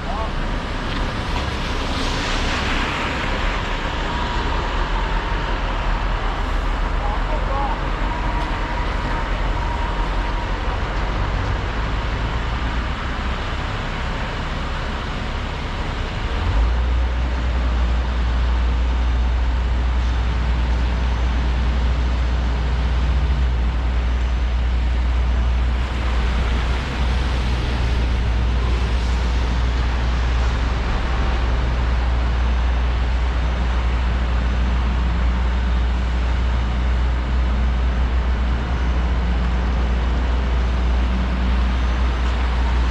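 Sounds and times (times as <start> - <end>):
excavator engine and hydraulics: 0.0 - 42.9.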